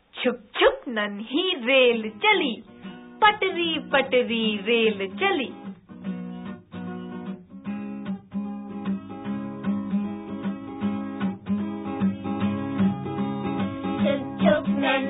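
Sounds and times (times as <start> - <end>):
strummed instrumental music: 1.9 - 15.0.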